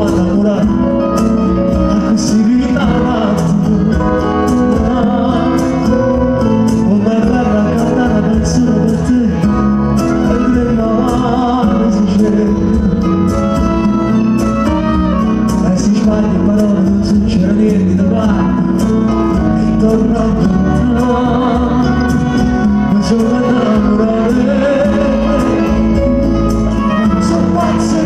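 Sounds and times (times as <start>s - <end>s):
acoustic guitar: 0.0s - 28.0s
keyboard: 0.0s - 28.0s
man singing pop song: 0.0s - 28.0s
percussion beat: 0.0s - 28.0s.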